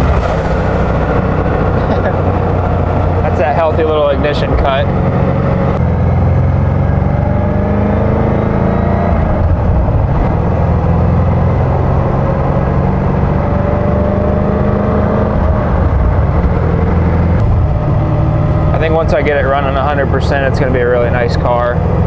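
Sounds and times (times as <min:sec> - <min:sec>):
car engine from inside cabin: 0:00.0 - 0:22.0
road noise: 0:00.0 - 0:22.0.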